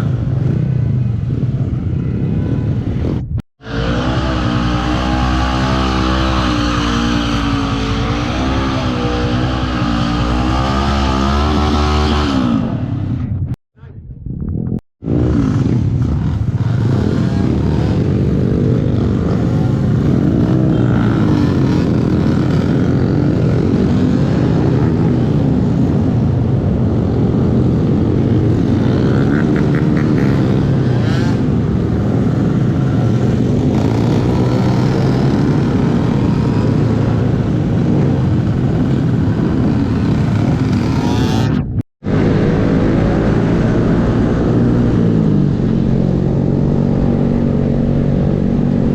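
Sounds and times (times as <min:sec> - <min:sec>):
minibike engine revving: 0:03.6 - 0:12.8, 0:15.1 - 0:48.9.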